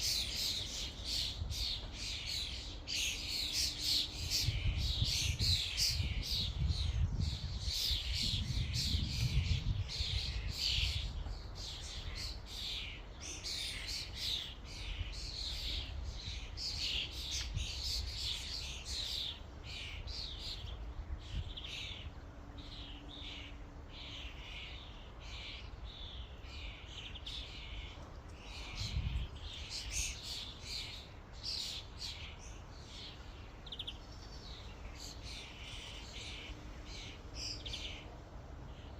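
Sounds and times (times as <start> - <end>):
starlings chattering and squawking: 0.0 - 38.9.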